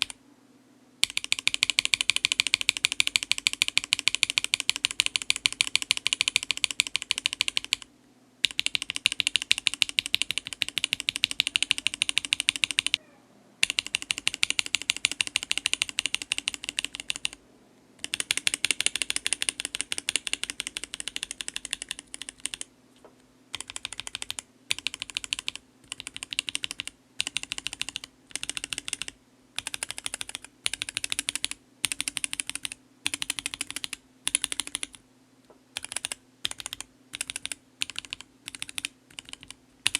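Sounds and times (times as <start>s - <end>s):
fast mechanical keyboard typing: 1.0s - 13.0s, 13.6s - 17.4s, 18.0s - 22.7s, 23.5s - 35.0s, 35.8s - 39.9s.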